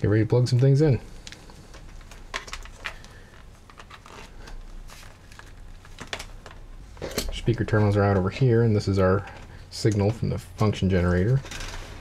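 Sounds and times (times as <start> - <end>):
cable rustling: 0.4 - 12.0.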